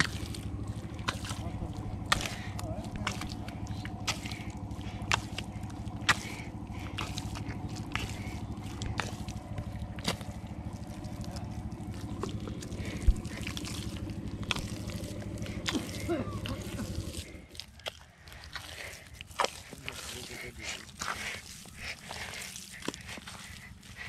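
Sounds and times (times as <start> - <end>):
hands squelching in wet mud: 0.0 - 24.0
sharp wet smacks and clicks: 0.0 - 24.0
steady low hum: 0.0 - 24.0.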